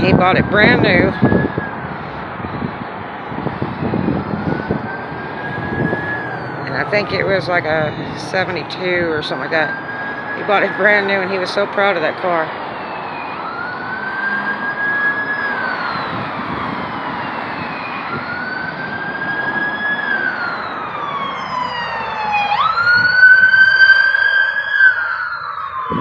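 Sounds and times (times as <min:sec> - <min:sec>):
emergency siren wailing: 0:00.0 - 0:26.0.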